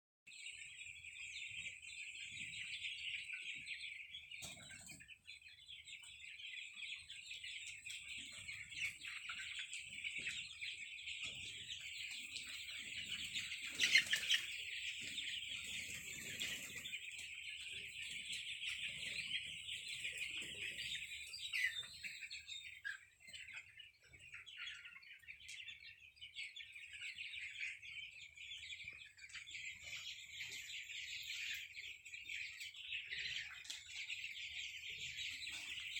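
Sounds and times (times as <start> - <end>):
chicks peeping: 0.3 - 36.0.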